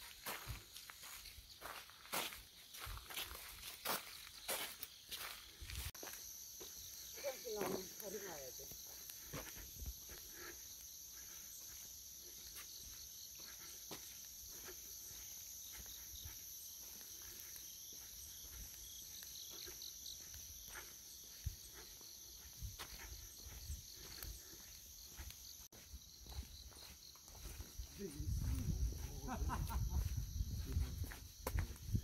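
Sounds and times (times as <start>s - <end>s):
crickets chirring: 0.0s - 32.0s
faint footsteps on dirt path: 0.0s - 32.0s.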